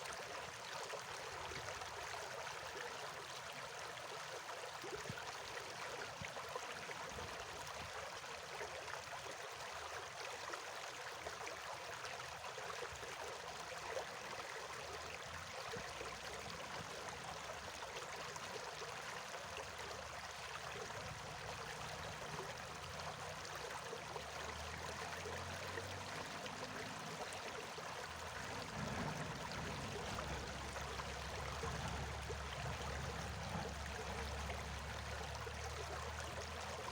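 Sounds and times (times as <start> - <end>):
stream of water flowing: 0.0 - 36.9.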